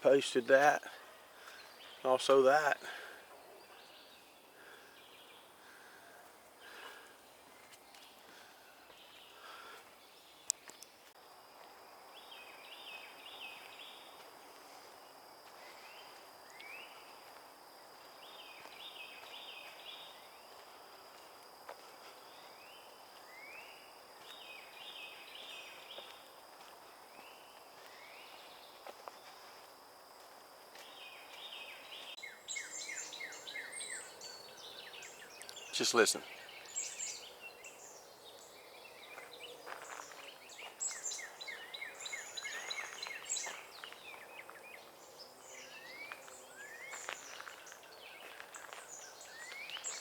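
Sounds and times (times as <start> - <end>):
songbirds singing: 0.0 - 11.2, 11.9 - 29.6, 30.7 - 50.0.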